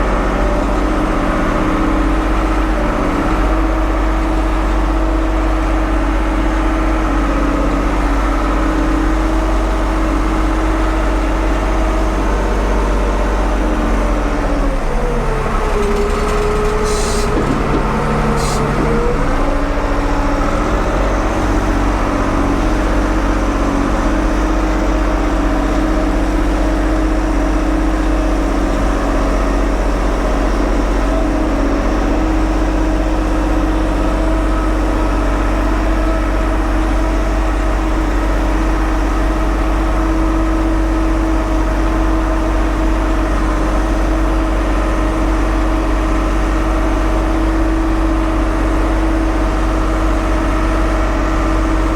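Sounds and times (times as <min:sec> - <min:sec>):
backhoe engine running: 0:00.0 - 0:51.9.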